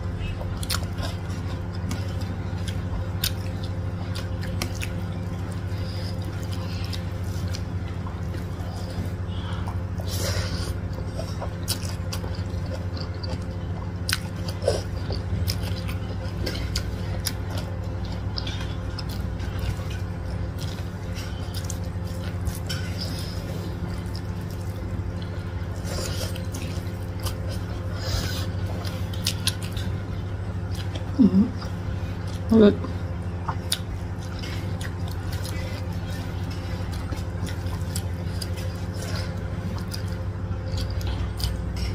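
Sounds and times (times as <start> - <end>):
steady low hum: 0.0 - 41.9
wet chewing and lip-smacking: 0.0 - 41.9.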